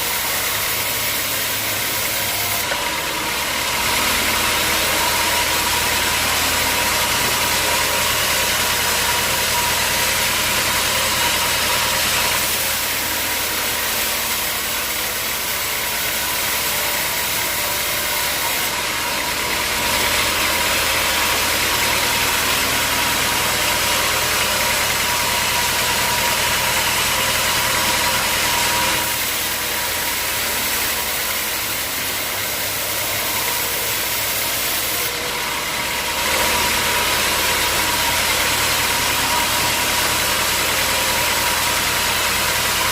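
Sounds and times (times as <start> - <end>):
sawmill saw cutting logs: 0.0 - 42.9.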